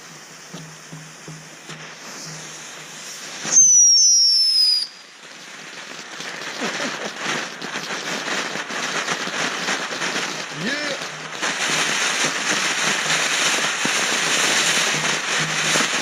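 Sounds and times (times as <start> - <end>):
firework whistle: 0.0 - 16.0
fireworks crackling: 0.0 - 16.0.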